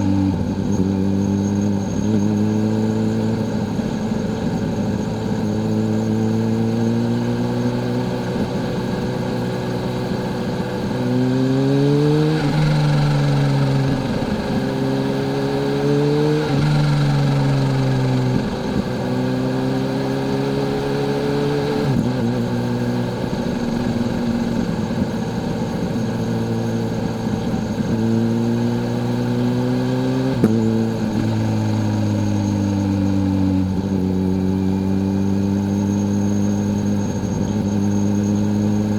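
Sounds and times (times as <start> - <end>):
motorcycle engine pulling: 7.7 - 38.9.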